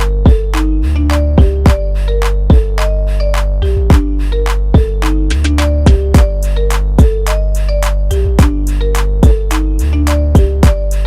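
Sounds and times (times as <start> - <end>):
deep held bass: 0.0 - 11.0
simple melody of held notes: 0.0 - 11.0.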